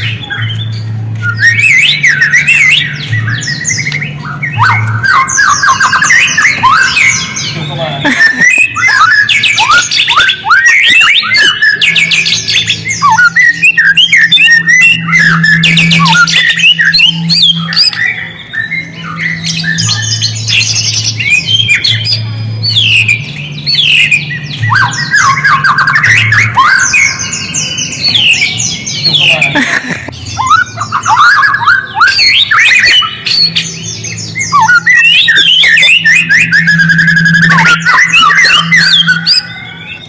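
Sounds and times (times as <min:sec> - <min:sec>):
songbird singing loudly: 0:00.0 - 0:40.0
steady low hum: 0:00.0 - 0:40.0.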